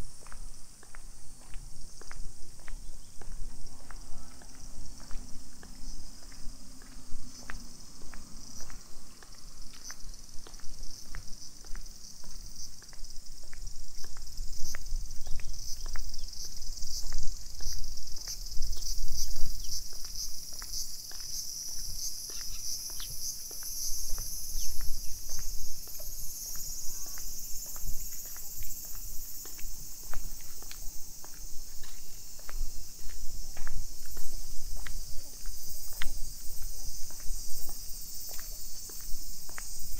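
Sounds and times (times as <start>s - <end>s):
cicadas droning: 0.0s - 39.9s
footsteps on brick paving: 0.0s - 39.9s.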